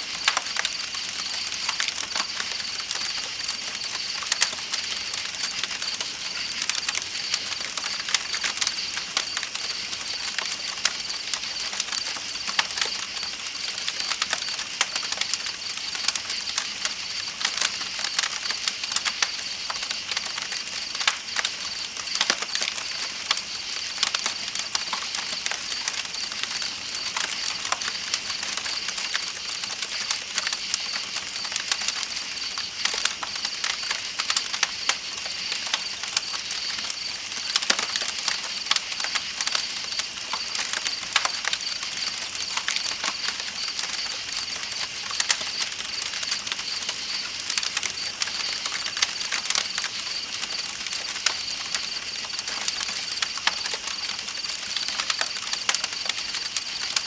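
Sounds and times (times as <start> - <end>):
night insects chorus: 0.0 - 57.0
campfire crackling: 0.1 - 57.0.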